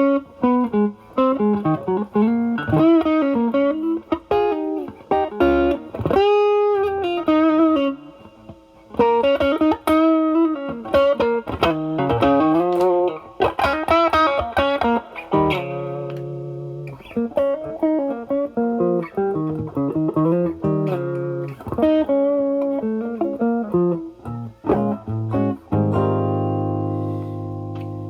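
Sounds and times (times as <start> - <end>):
guitar chord ringing: 0.0 - 28.0
overdriven electric guitar lead: 0.0 - 28.0.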